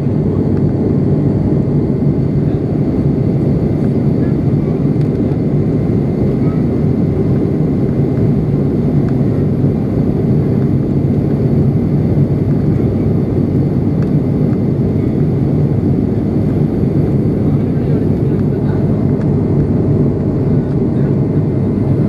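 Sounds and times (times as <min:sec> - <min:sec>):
constant low hum: 0:00.0 - 0:22.0
turboprop engine drone: 0:00.0 - 0:22.0.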